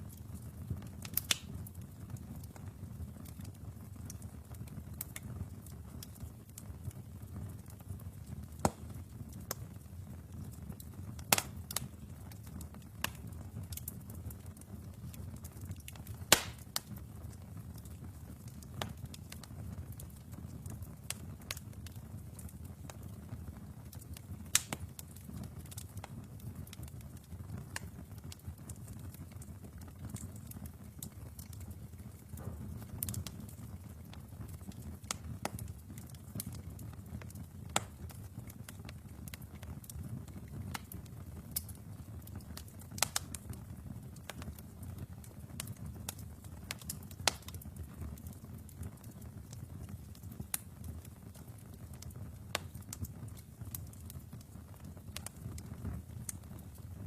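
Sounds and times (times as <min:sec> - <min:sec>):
fire flame rumbling: 0:00.0 - 0:57.0
logs crackling and popping: 0:00.0 - 0:57.0.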